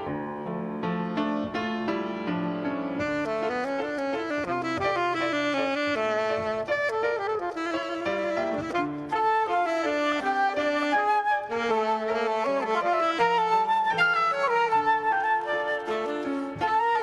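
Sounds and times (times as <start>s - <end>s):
piano accompaniment: 0.0s - 17.0s
saxophone playing hymn melody: 2.9s - 17.0s.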